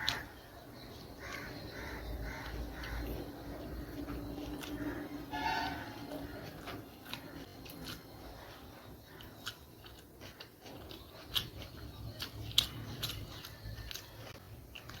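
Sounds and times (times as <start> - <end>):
person chewing noodles: 0.0 - 15.0.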